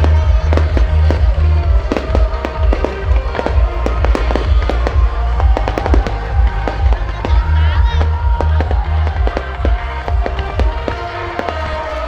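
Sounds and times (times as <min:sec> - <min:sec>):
fireworks bursting: 0:00.0 - 0:12.0
loud music with heavy bass: 0:00.0 - 0:12.0.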